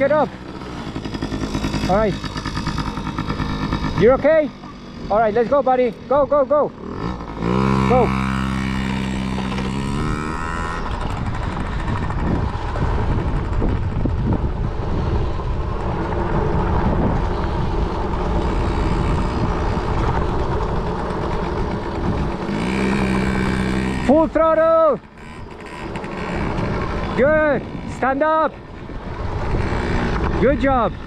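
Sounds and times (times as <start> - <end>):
dirt bike engine running: 0.0 - 31.0
rough rushing noise: 0.0 - 31.0.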